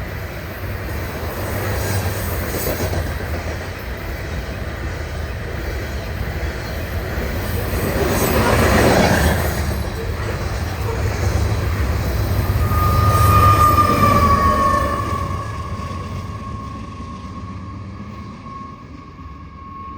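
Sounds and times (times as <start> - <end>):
freight train rumbling on rails: 0.0 - 19.9
train wheel squeal: 0.0 - 19.9.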